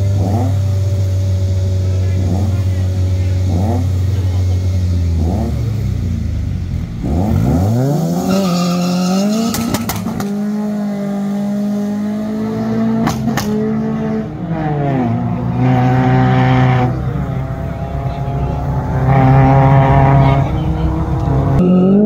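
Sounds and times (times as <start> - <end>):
drag car engine revving: 0.0 - 22.0.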